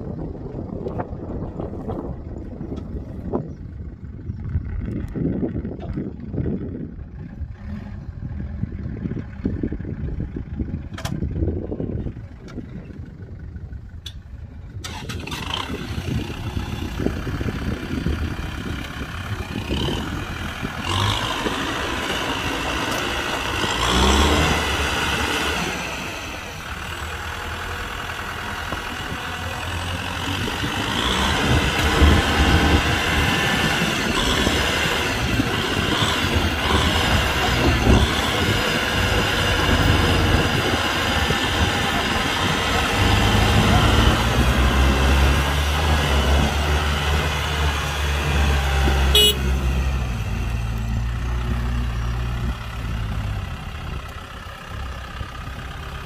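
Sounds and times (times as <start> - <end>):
tractor diesel engine revving: 4.1 - 56.0.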